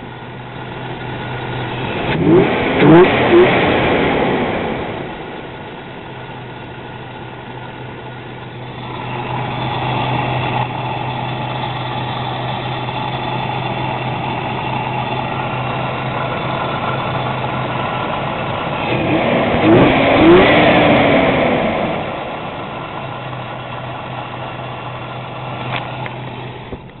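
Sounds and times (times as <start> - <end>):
car engine humming: 0.0 - 27.0.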